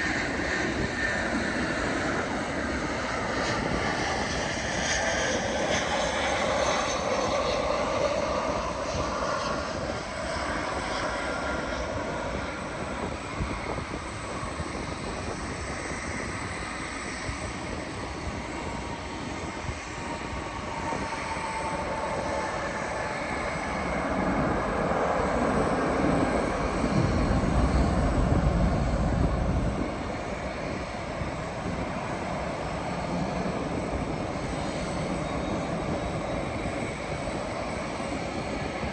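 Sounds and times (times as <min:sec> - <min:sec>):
jet airliner engine noise: 0:00.0 - 0:38.9.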